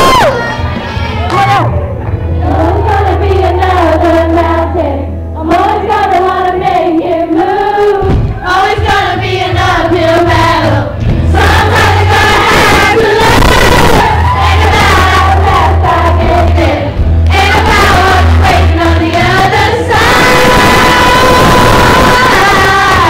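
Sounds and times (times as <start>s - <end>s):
backing track with bass line: 0.0s - 23.0s
group of voices singing: 2.3s - 23.0s.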